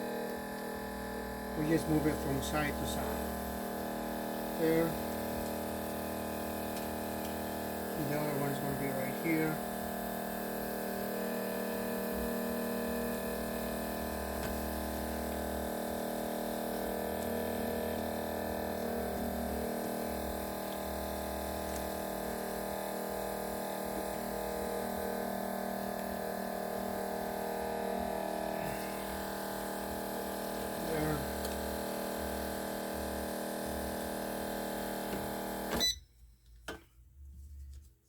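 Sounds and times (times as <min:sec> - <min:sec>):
electrical hum and buzz: 0:00.0 - 0:36.1.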